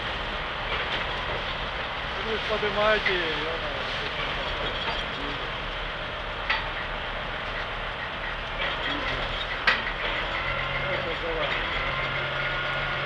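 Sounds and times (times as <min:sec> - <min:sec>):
heavy machinery running: 0:00.0 - 0:13.0.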